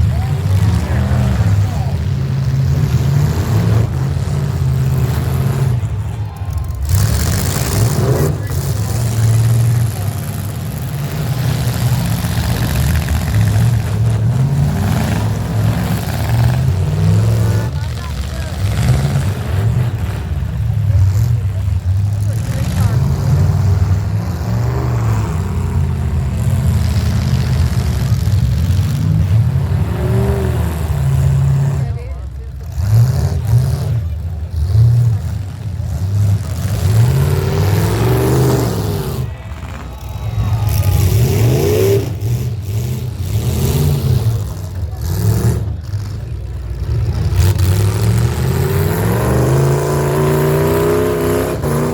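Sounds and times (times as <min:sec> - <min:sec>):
car engines revving unevenly: 0:00.0 - 0:51.9.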